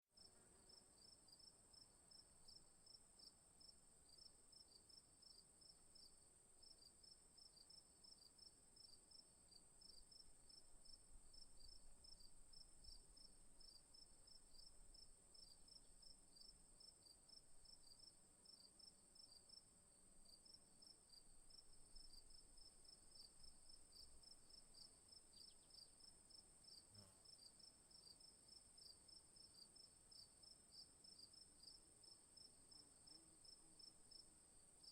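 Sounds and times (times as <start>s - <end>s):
cricket chirping rhythmically: 0.2s - 34.9s.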